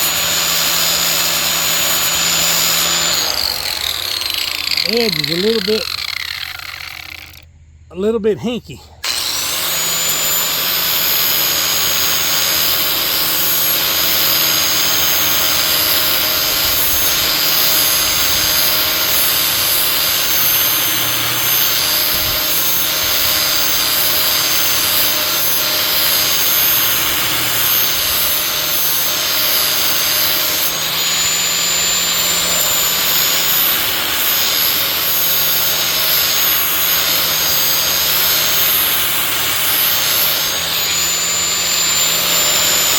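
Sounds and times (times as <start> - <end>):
angle grinder grinding steel: 0.0 - 7.5, 9.0 - 42.9.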